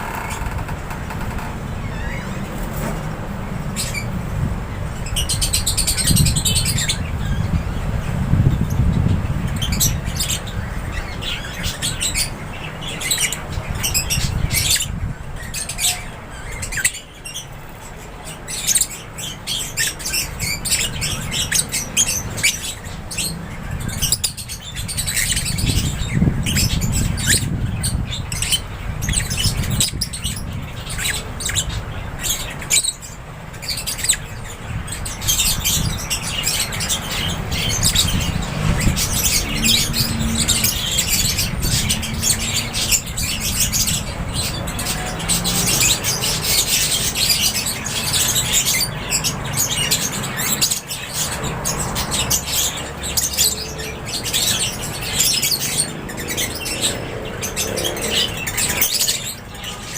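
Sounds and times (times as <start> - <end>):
birds chirping and squawking: 0.0 - 59.9.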